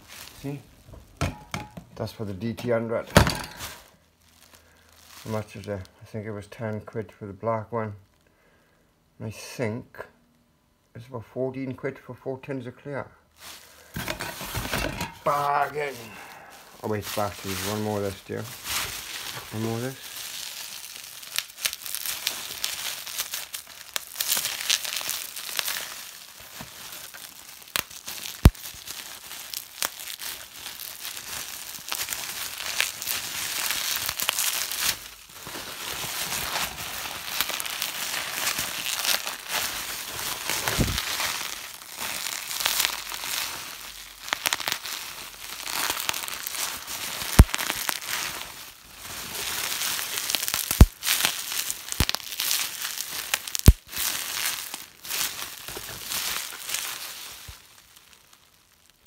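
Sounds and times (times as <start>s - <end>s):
bubble wrap crinkling: 0.0s - 6.2s, 13.3s - 59.0s
bubble wrap pops: 3.1s - 5.5s, 13.4s - 59.0s.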